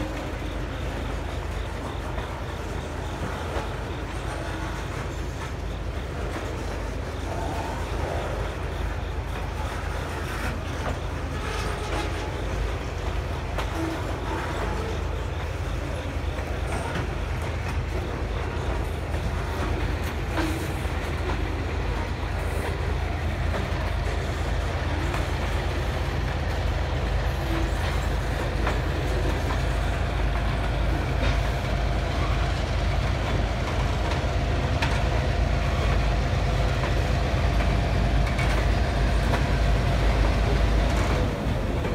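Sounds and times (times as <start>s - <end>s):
freight train rumbling past: 0.0s - 41.9s
wheel clicks over rail joints: 0.0s - 41.9s.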